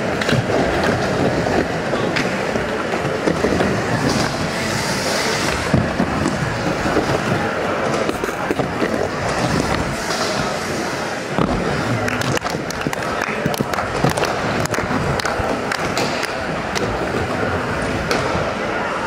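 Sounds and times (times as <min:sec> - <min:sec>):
skateboard wheels rolling on ramp: 0:00.0 - 0:19.0.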